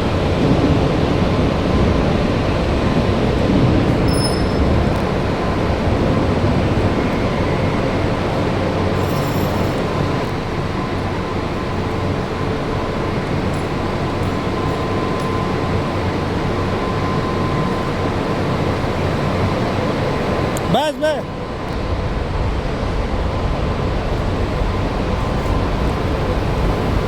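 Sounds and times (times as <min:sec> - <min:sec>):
machinery running with faint whine: 0:00.0 - 0:27.0.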